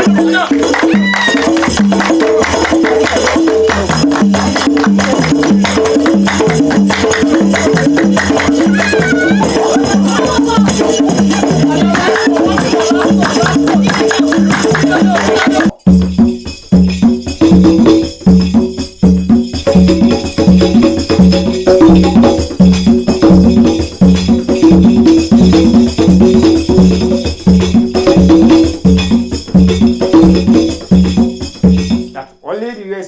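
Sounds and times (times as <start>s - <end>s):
folk instrument fast jingling riff: 0.0s - 33.0s.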